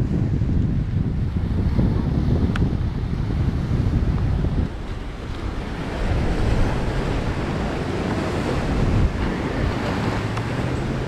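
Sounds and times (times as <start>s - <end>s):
ocean surf on sandy beach: 0.0s - 11.0s
wind buffeting microphone: 0.0s - 11.0s.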